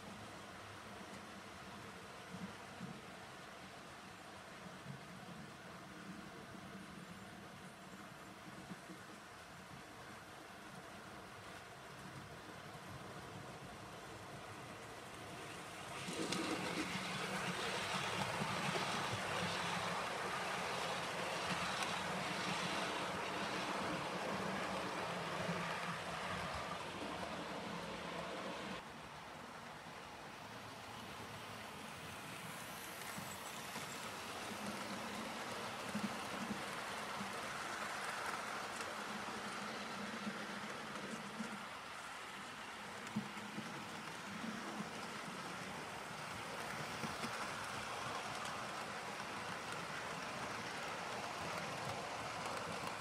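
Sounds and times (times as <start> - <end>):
model train running on track: 0.0 - 53.0.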